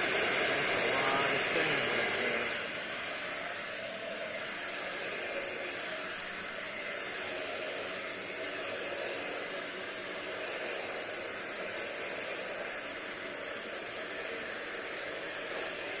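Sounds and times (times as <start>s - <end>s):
stick vacuum running: 0.0s - 16.0s.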